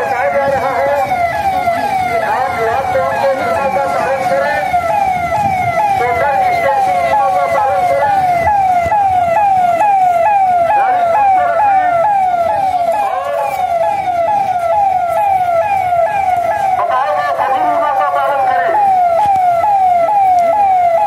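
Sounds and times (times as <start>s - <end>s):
police siren: 0.0s - 21.0s.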